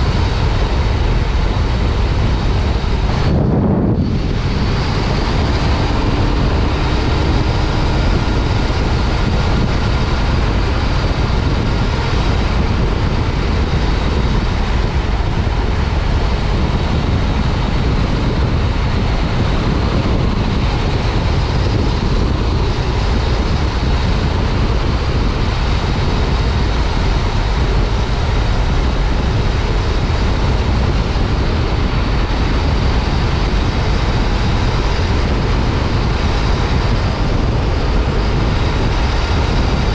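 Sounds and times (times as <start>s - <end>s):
motorcycle engine cruising: 0.0s - 39.9s
road noise: 0.0s - 39.9s
wind rush: 0.0s - 39.9s.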